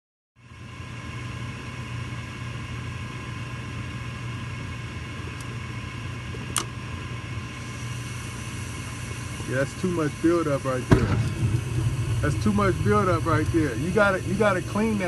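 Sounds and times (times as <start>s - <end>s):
furnace high whine: 0.4s - 15.0s
furnace low hum: 0.4s - 15.0s.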